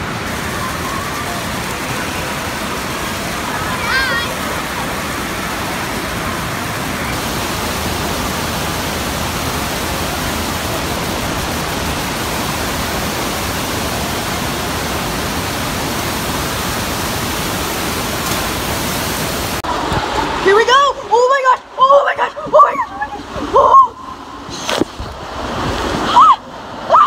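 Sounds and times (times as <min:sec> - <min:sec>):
rushing water on surf slope: 0:00.0 - 0:27.0.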